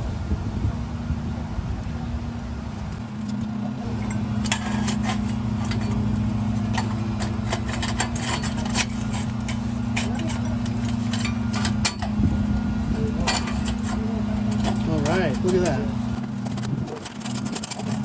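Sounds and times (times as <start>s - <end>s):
steady low hum: 0.0s - 18.0s
metal tools clinking: 3.0s - 18.0s.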